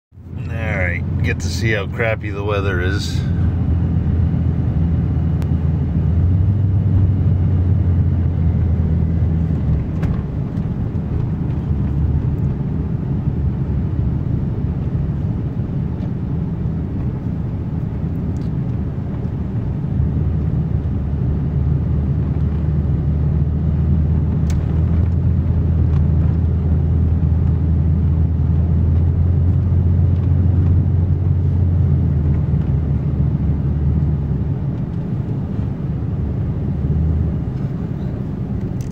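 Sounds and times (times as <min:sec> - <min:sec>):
truck engine and road rumble: 0:00.1 - 0:38.9.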